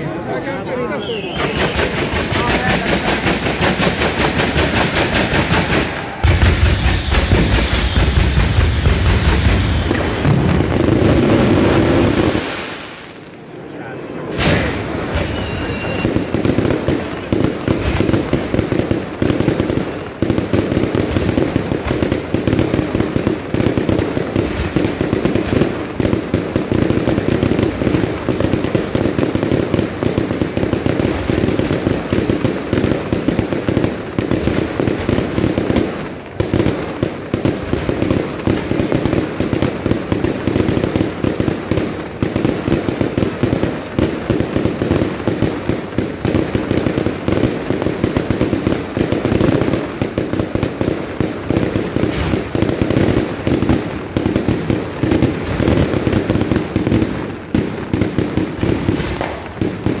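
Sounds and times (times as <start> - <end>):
fireworks bangs and crackle: 0.0 - 60.0.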